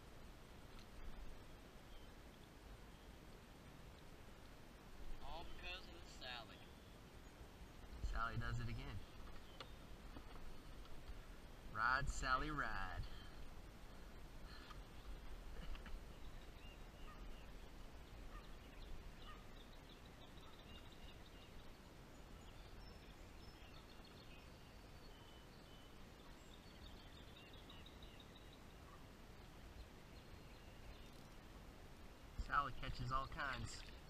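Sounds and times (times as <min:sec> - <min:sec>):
faint bird chirps and trills: 0:01.0 - 0:03.3, 0:05.1 - 0:34.0.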